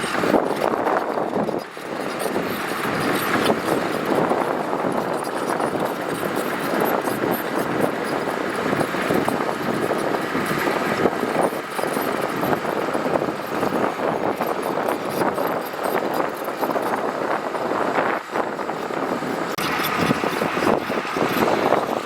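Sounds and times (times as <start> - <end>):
diesel machinery running on gravel: 0.0 - 22.0.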